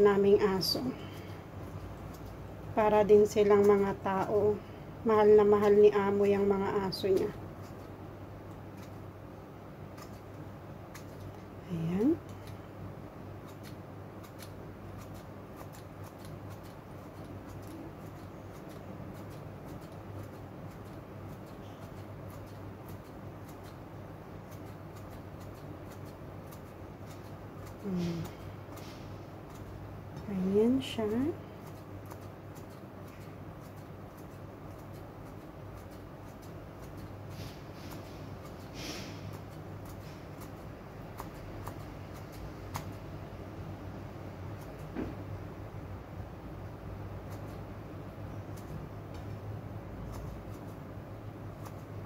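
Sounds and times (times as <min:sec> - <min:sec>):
scissors snipping broccoli: 0:00.0 - 0:07.9, 0:08.5 - 0:09.0, 0:09.8 - 0:12.6, 0:13.4 - 0:43.1, 0:44.5 - 0:45.0, 0:47.2 - 0:47.7, 0:48.4 - 0:50.9, 0:51.5 - 0:52.0
steady low hum: 0:00.0 - 0:52.0.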